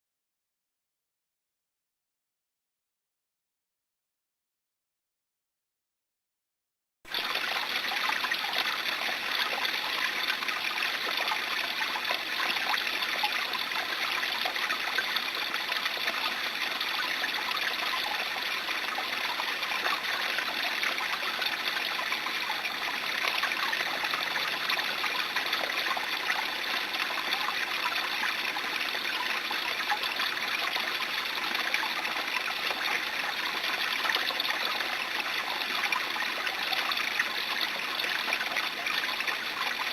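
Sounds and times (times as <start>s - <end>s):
brook babbling: 7.1s - 39.9s.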